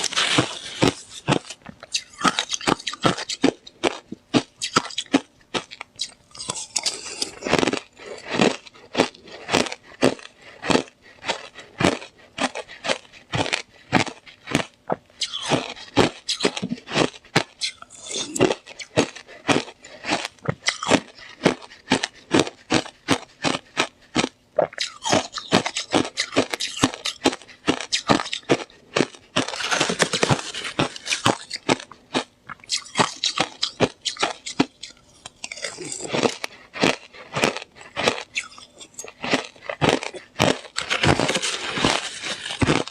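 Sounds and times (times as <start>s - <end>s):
ice being chewed: 0.0s - 42.9s.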